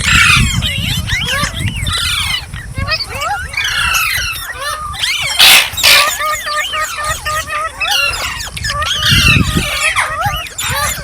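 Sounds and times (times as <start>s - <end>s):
harsh parrot calls: 0.0s - 11.0s
parrot chirping: 1.1s - 11.0s.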